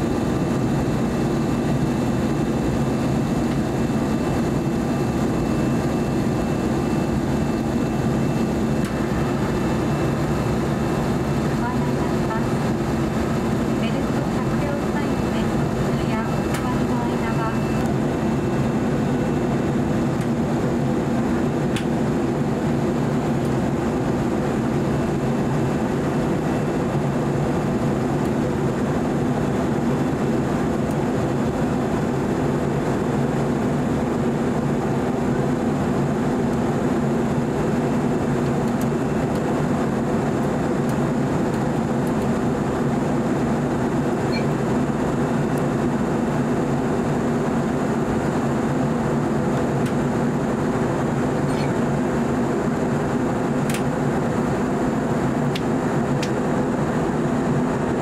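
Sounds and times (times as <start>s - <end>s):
airliner cabin engine rush: 0.0s - 58.0s
constant low hum: 0.0s - 58.0s.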